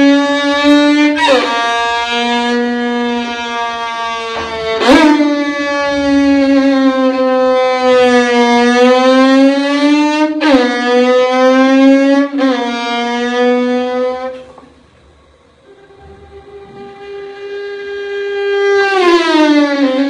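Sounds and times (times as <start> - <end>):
violin buzzing bowed tone: 0.0 - 20.0.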